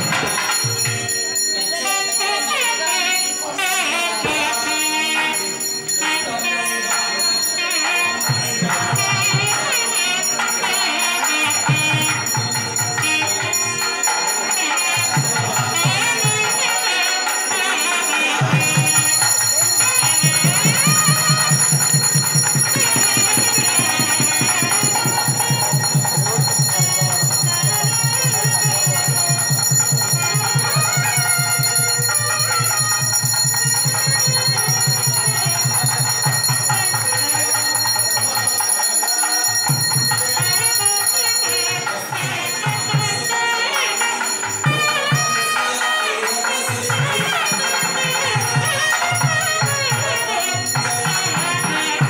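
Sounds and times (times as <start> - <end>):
temple bells ringing: 0.0 - 52.0
music with fast even beat: 8.1 - 52.0.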